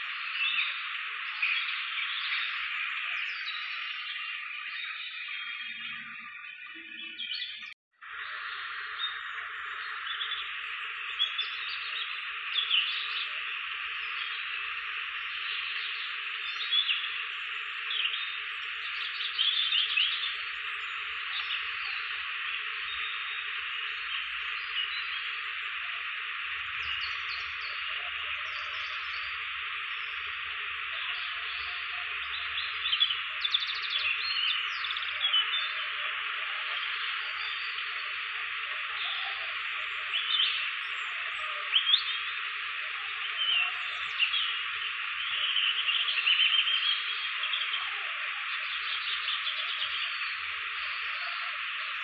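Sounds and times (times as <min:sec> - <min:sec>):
bird-like chirps: 0:00.0 - 0:52.0
insects and frogs chorus: 0:00.0 - 0:52.0.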